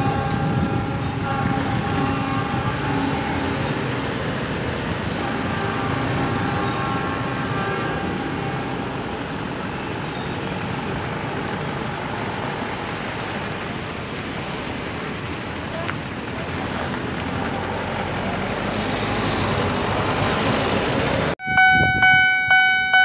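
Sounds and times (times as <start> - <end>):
train wheels rumbling on track: 0.0 - 22.1.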